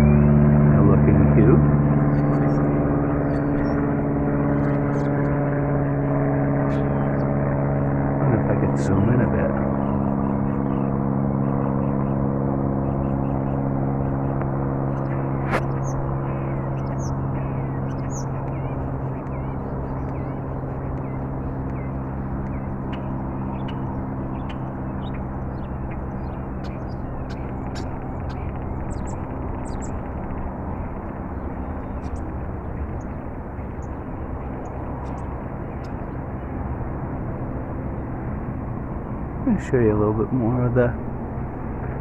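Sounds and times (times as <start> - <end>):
small birds chirping: 0.0 - 36.7
low mechanical drone: 0.0 - 42.0.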